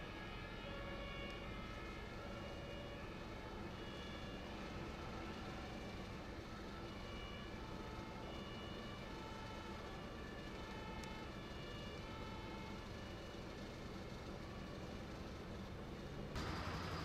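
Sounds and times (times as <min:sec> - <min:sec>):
two-tone emergency siren: 0:00.0 - 0:15.7, 0:16.4 - 0:17.0.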